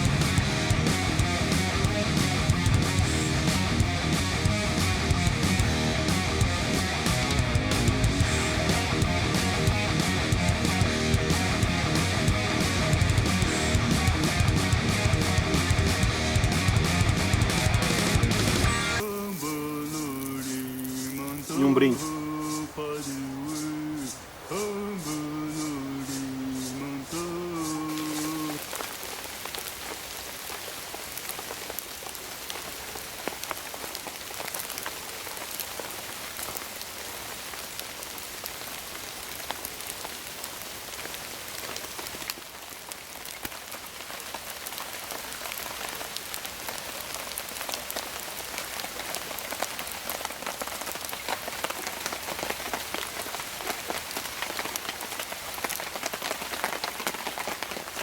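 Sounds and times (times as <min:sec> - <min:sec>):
light rain falling: 0:00.0 - 0:58.0
raindrops ticking: 0:00.0 - 0:58.0.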